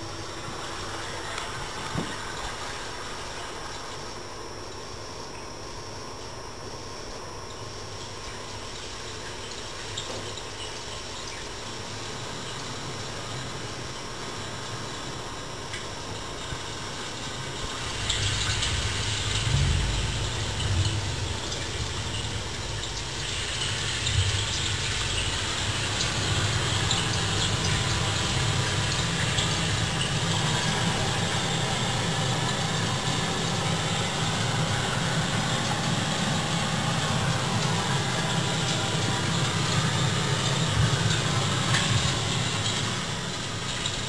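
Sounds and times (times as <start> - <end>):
running water with deep rumble: 0.0 - 4.9, 7.6 - 44.0.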